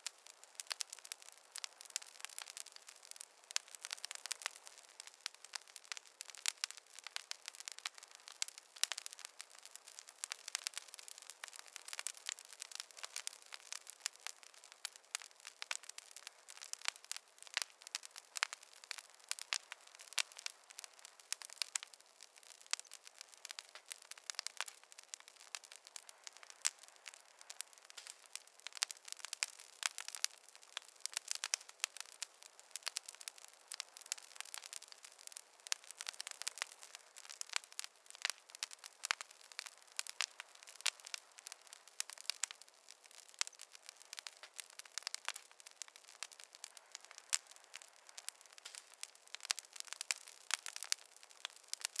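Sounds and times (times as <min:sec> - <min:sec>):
wood logs crackling in fireplace: 0:00.0 - 0:52.0.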